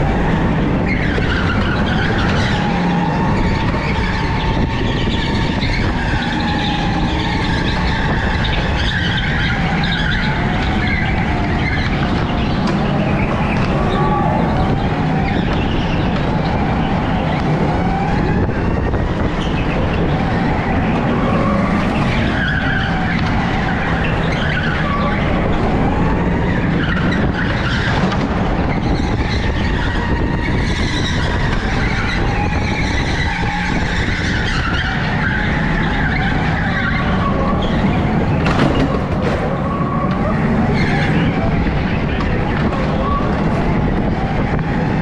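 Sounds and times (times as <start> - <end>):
go-kart motor rumble: 0.0 - 45.0
tyres squealing and skidding: 0.0 - 45.0.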